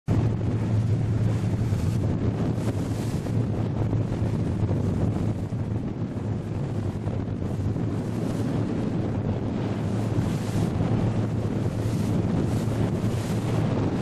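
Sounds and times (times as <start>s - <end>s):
boat engine humming: 0.1s - 14.0s
water washing against hull: 0.1s - 14.0s
wind buffeting microphone: 0.1s - 14.0s.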